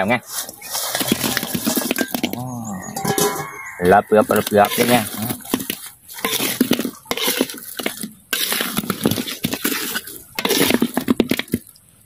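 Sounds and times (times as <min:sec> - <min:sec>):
utensil clinking and scraping pan: 0:00.0 - 0:11.6.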